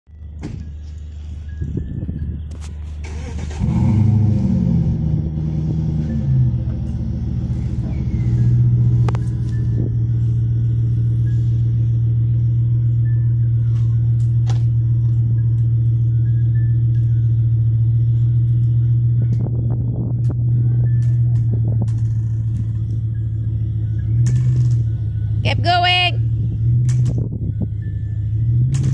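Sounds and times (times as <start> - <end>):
engine running and revving: 0.1 - 28.9.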